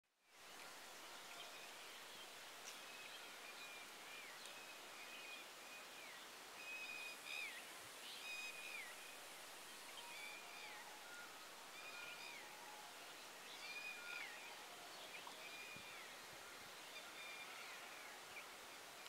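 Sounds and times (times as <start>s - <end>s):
steady hiss: 0.2s - 19.0s.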